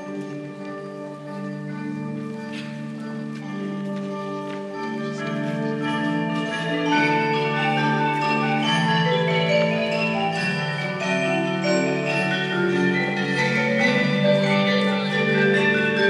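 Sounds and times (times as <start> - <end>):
live band music: 0.0 - 16.0
mallet percussion: 0.0 - 16.0.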